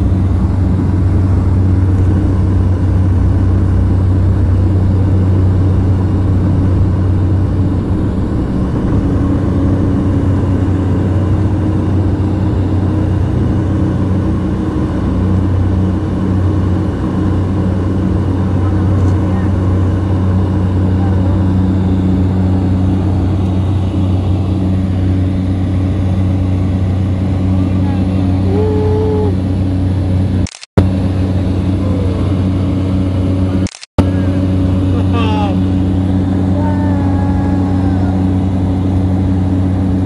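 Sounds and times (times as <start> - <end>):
light plane engine hum: 0.0 - 40.0.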